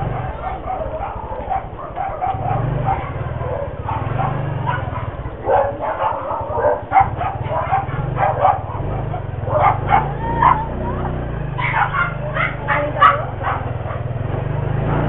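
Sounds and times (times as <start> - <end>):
dog barking: 0.0 - 14.3
motorcycle engine running: 0.0 - 15.0.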